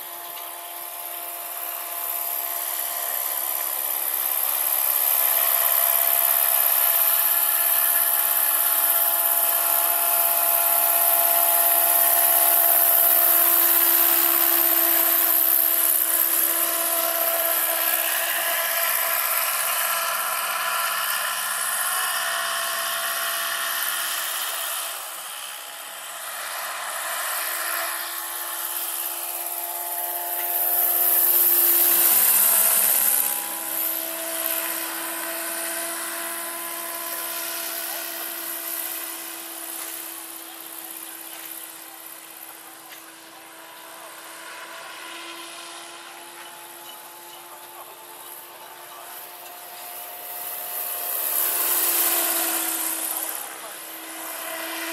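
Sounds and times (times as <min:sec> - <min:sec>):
electric motor high whine: 0:00.0 - 0:54.9
helicopter rotor noise: 0:00.0 - 0:54.9.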